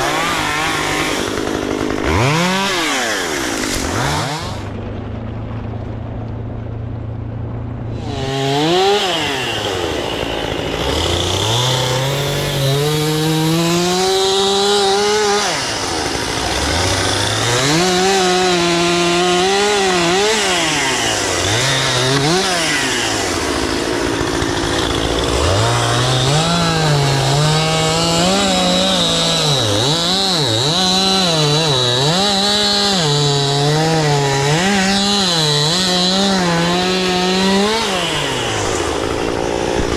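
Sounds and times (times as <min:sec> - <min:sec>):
chainsaw cutting wood: 0:00.0 - 0:04.8, 0:08.0 - 0:39.9.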